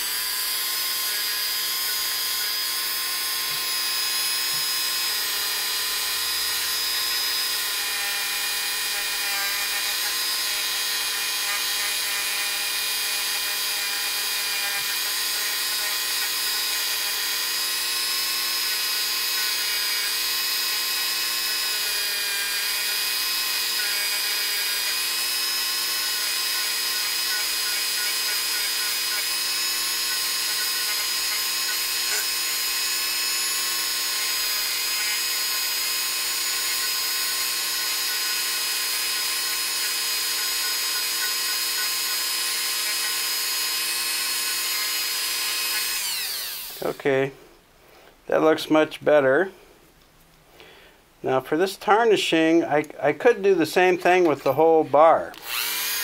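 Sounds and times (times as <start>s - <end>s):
rotary tool high-pitched whine: 0.0s - 47.0s, 54.3s - 56.0s.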